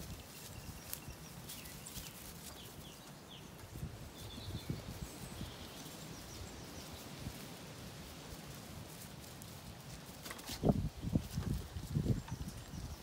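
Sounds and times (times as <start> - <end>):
sheep moving and grazing: 0.0 - 13.0
wind rumbling on microphone: 0.0 - 13.0.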